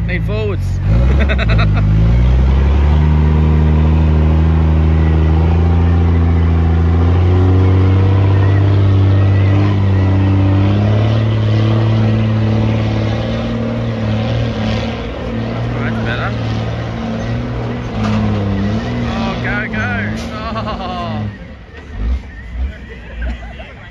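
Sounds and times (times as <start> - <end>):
truck engine under load: 0.0 - 23.9.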